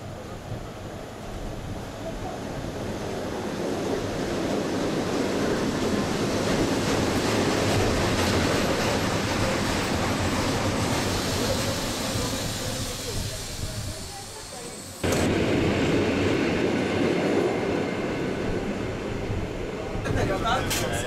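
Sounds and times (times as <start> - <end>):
electric train pulling into station: 0.0 - 21.0.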